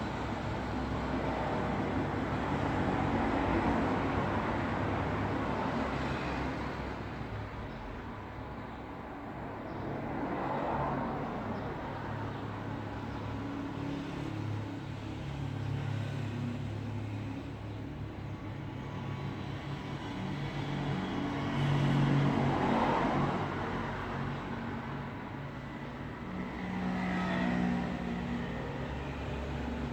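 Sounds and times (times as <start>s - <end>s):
road traffic: 0.0s - 29.9s.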